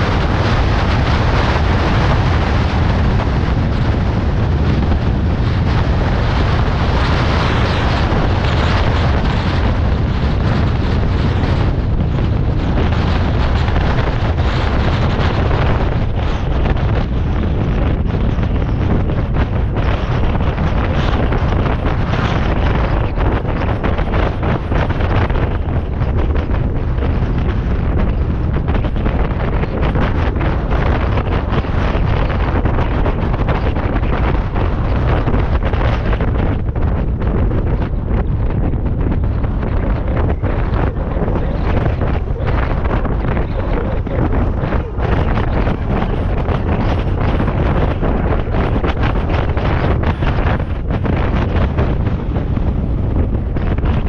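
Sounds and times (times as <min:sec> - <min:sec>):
car wind and road noise: 0:00.0 - 0:54.0
wind buffeting microphone: 0:00.0 - 0:54.0.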